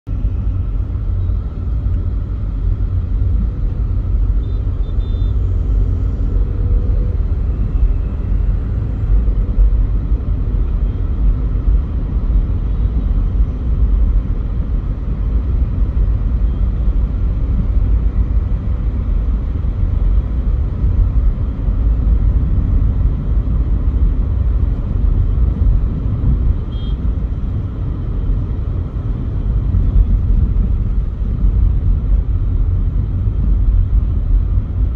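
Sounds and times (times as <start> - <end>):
car engine and road noise: 0.0 - 34.9.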